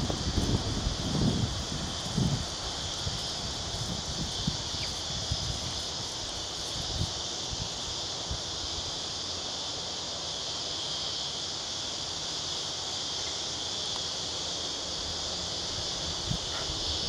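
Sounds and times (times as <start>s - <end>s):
cicadas droning: 0.0s - 17.0s
wind: 0.0s - 17.0s.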